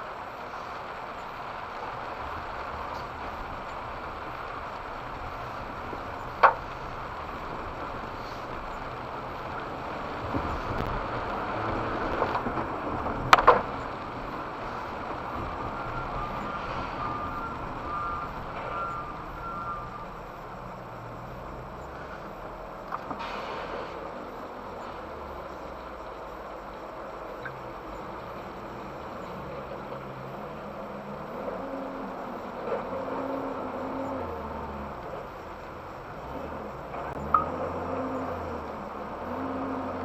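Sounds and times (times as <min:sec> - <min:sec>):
road and tyre noise: 0:00.0 - 0:40.0.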